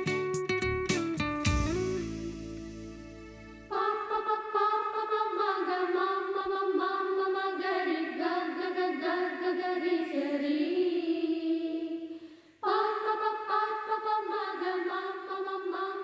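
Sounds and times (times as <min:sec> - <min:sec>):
music with singing voices: 0:00.0 - 0:16.0.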